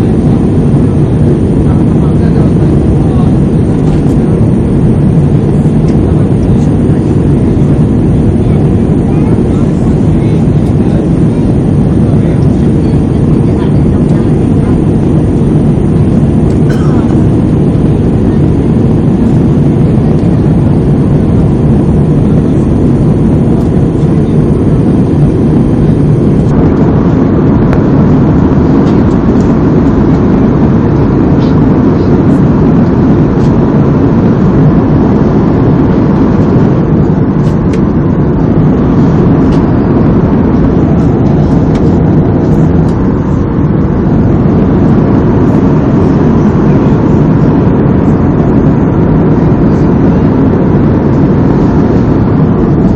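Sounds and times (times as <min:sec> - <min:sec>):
airliner cabin engine noise: 0:00.0 - 0:52.9
faint high whine: 0:00.0 - 0:52.9.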